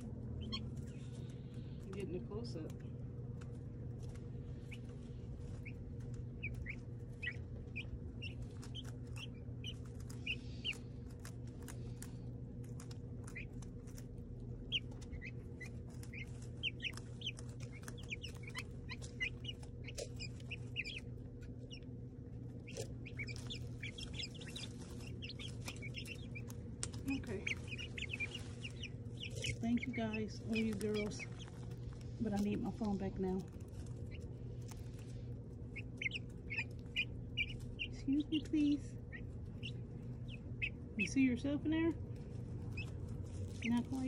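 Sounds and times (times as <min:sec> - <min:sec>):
chicks peeping and chirping: 0:00.0 - 0:44.0
steady low hum: 0:00.0 - 0:44.0.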